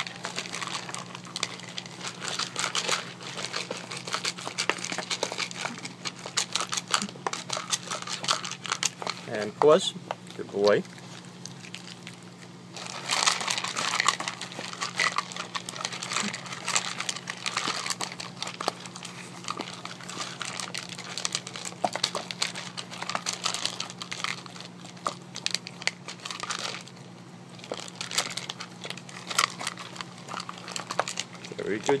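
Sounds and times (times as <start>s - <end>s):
dog crunching kibble: 0.0s - 32.0s
kibble clattering against plastic: 0.0s - 32.0s.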